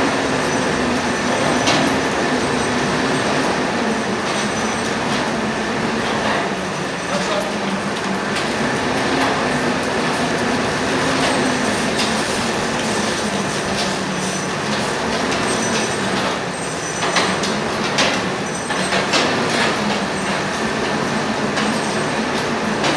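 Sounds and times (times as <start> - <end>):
mill gear mechanical rattle: 0.0 - 22.9.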